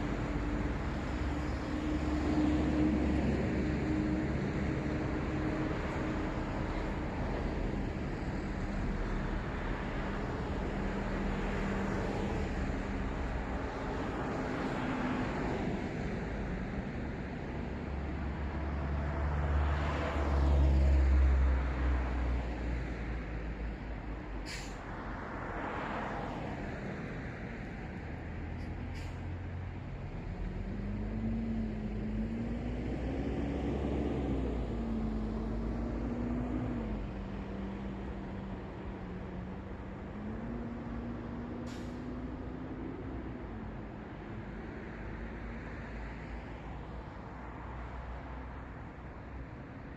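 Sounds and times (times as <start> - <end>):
low engine hum: 0.0 - 49.9
low rumble of traffic: 0.0 - 49.9
passing cars and tyre noise: 0.0 - 49.9.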